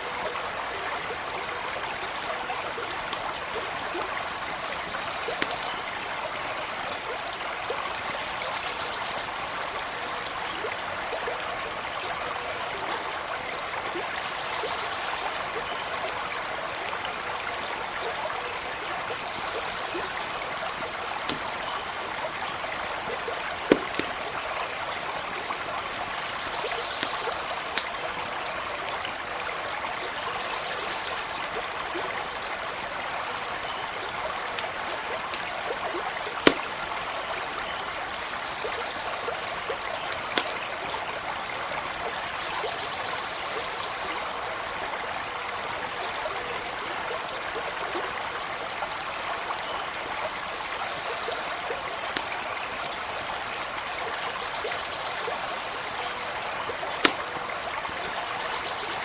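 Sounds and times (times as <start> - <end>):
campfire crackling: 0.0 - 59.0
stream running: 0.0 - 59.0.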